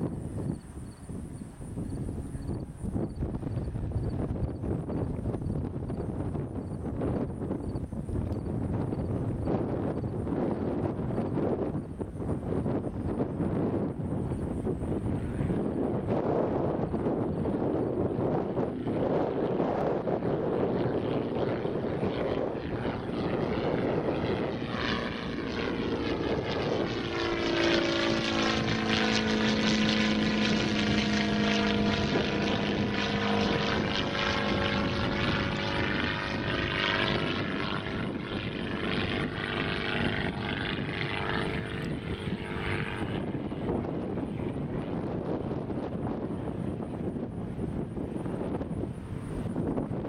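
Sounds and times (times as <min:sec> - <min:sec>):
propeller aircraft engine drone: 0:00.0 - 0:50.0
wind on microphone: 0:00.0 - 0:50.0.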